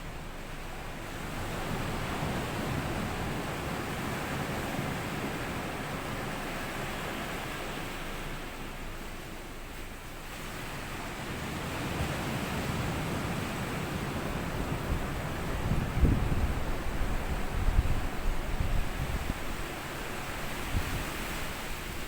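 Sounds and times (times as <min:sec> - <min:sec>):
small waves washing on beach: 0:00.0 - 0:22.0.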